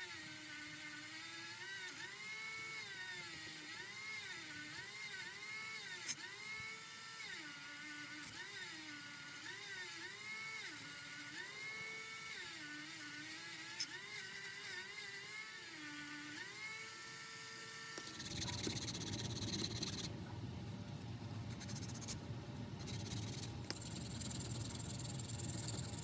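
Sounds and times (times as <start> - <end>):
small power tool motor running: 0.0 - 20.1, 21.5 - 22.2, 22.8 - 26.0.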